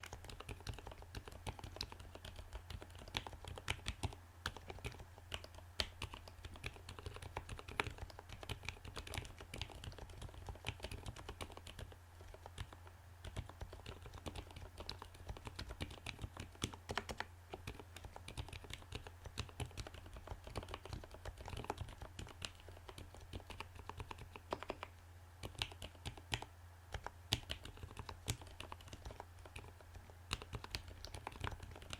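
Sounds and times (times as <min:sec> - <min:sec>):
mechanical keyboard typing: 0:00.0 - 0:31.9.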